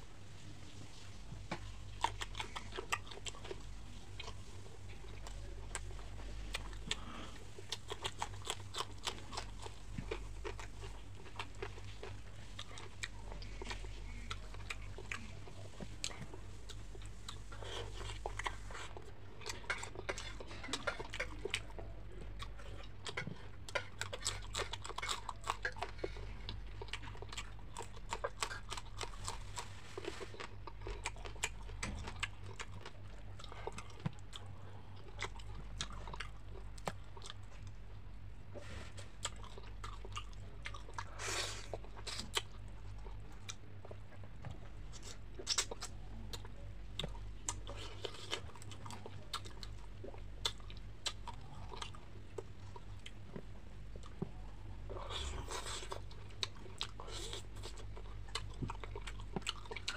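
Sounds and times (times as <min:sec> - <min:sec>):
steady low hum: 0:00.0 - 0:59.9
wet chewing and smacking: 0:01.4 - 0:38.0, 0:39.2 - 0:59.9.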